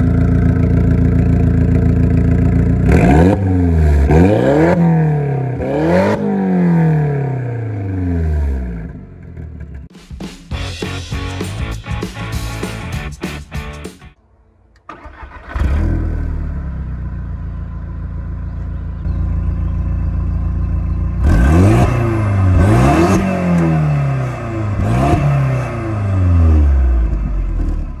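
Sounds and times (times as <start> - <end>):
car engine idling and revving: 0.0 - 9.9, 14.9 - 28.0.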